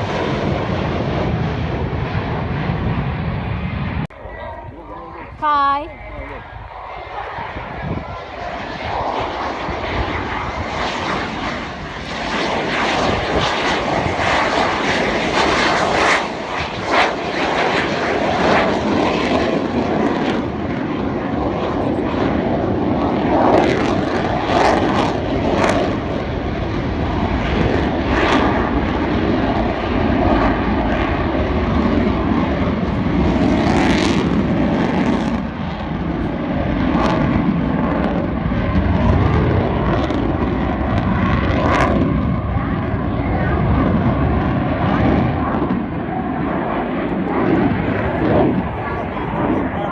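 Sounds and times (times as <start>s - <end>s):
aircraft engine flying over: 0.0s - 49.9s.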